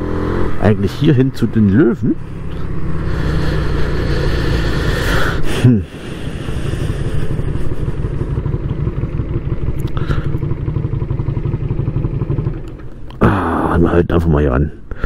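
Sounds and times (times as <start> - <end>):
motorcycle engine slowing: 0.0 - 14.0.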